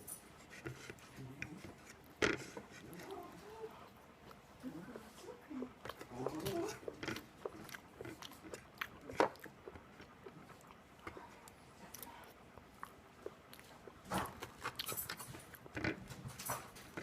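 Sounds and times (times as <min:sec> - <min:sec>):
chewing and biting waffles: 0:00.2 - 0:17.0.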